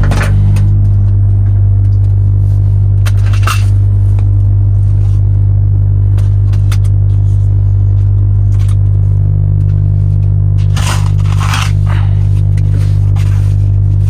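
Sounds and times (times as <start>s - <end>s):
engine idling hum: 0.0s - 14.0s.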